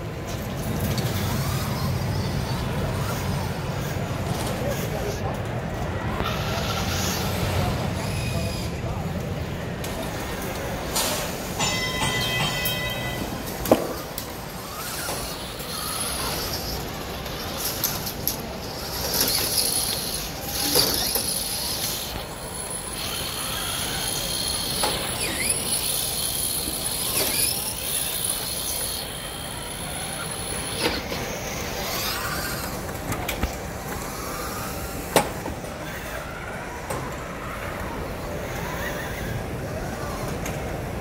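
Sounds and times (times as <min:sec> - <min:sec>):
crowd chatter: 0:00.0 - 0:41.0
mechanisms clattering: 0:00.0 - 0:41.0.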